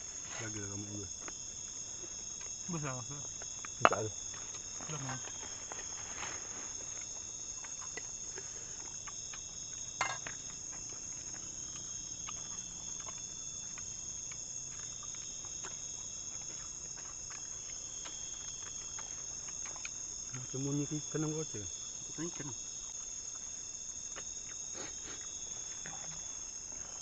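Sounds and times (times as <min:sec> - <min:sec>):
night insects chirring: 0:00.0 - 0:27.0.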